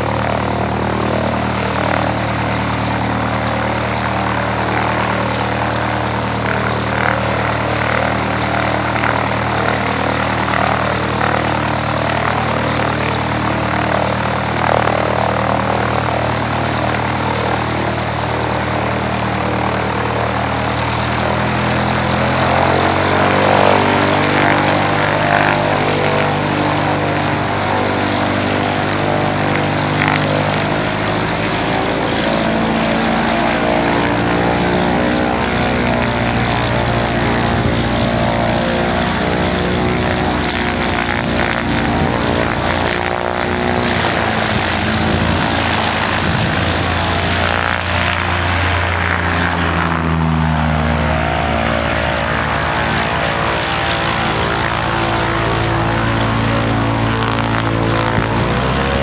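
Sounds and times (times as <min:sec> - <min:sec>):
propeller airplane engine running: 0:00.0 - 0:59.0.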